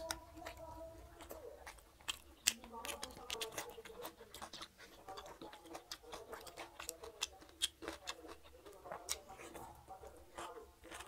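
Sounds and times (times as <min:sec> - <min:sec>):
wet chewing and lip smacking: 0:00.0 - 0:11.0.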